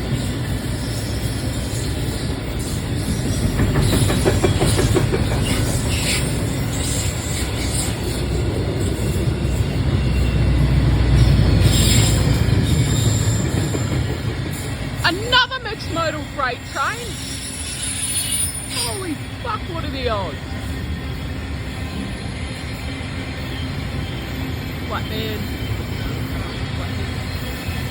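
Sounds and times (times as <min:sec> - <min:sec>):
freight train wagons rumbling: 0:00.0 - 0:27.9
high wheel squeals: 0:00.0 - 0:27.9.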